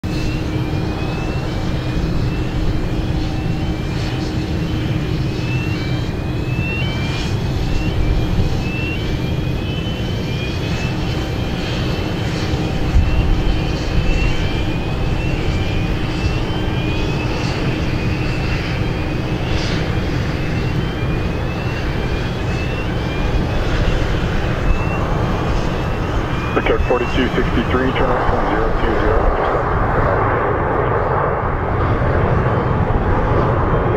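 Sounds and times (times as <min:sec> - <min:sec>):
jet engines rumbling: 0:00.0 - 0:33.9.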